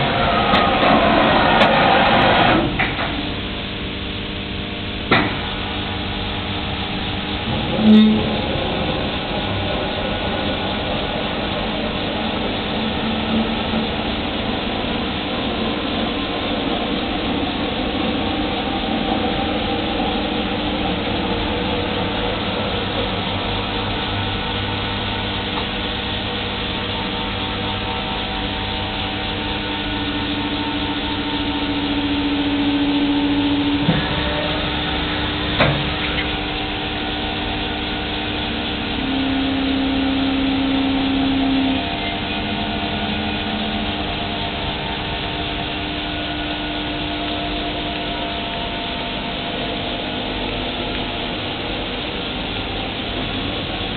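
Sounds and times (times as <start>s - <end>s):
milling machine whirring: 0.0s - 53.9s
strong hum: 0.0s - 53.9s.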